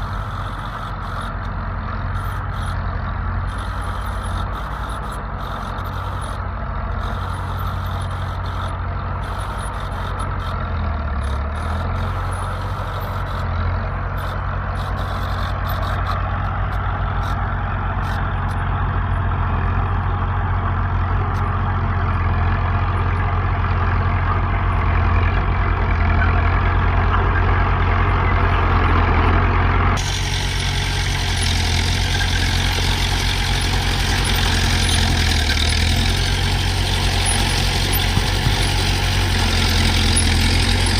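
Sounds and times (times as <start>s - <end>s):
heavy machinery diesel engine droning: 0.0s - 40.9s.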